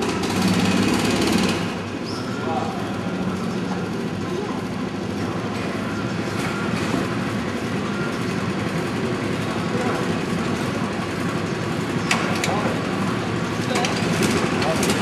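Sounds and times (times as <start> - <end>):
go-kart engines idling: 0.0 - 15.0.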